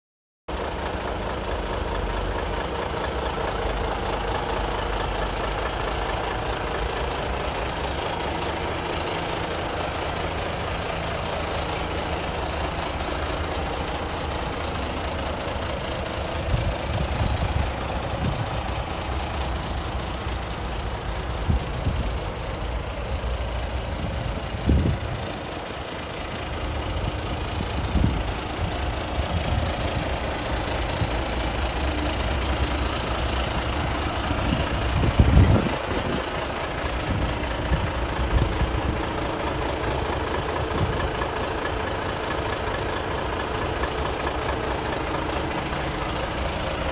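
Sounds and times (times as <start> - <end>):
diesel truck engine idling: 0.5 - 46.9.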